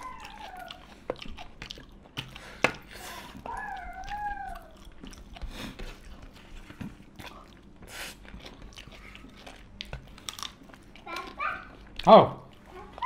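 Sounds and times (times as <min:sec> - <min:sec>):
chewing and mouth smacking: 0:00.0 - 0:13.0.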